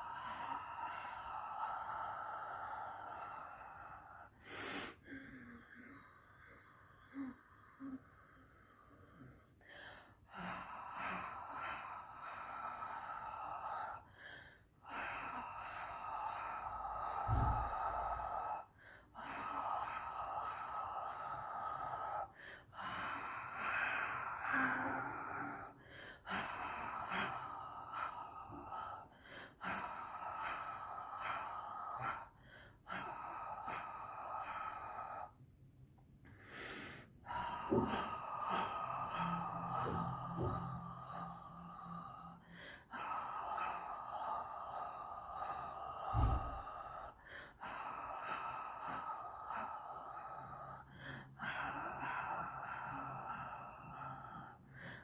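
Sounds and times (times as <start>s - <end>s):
person breathing: 0.0s - 55.0s.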